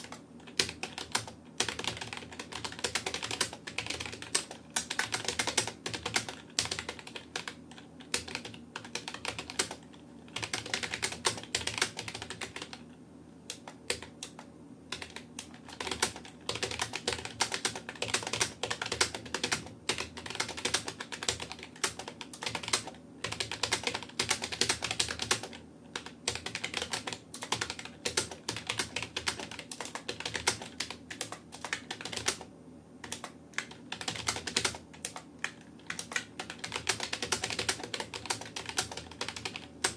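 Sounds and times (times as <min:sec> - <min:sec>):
fast typing on keyboard: 0:00.0 - 0:12.8, 0:13.5 - 0:39.9.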